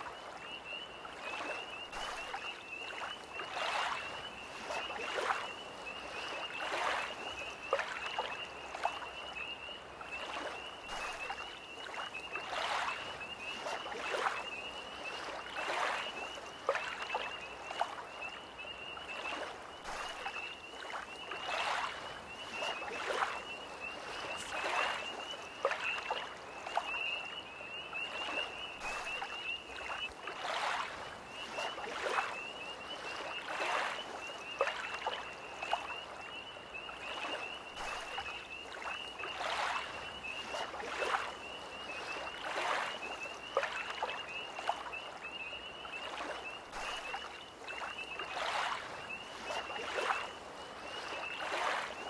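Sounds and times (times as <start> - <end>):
lake waves lapping: 0.0 - 9.0, 10.2 - 36.3, 37.0 - 52.0
tree frogs trilling: 0.0 - 52.0.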